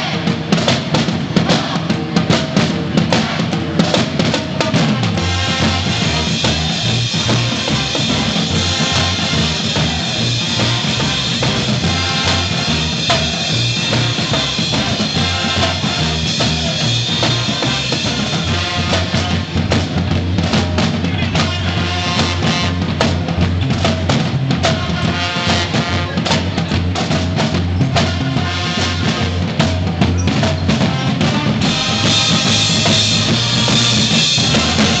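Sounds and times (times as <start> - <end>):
brass band playing: 0.0 - 35.0
steady drumbeat: 0.0 - 35.0
trombones: 3.1 - 35.0.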